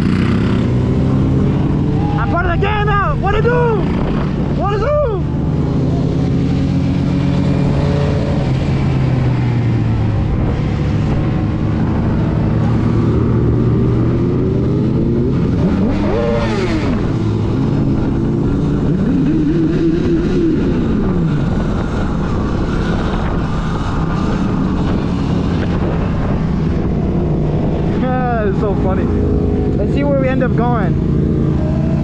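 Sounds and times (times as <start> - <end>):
engines revving: 0.0 - 32.0
wind rushing over microphone: 0.0 - 32.0.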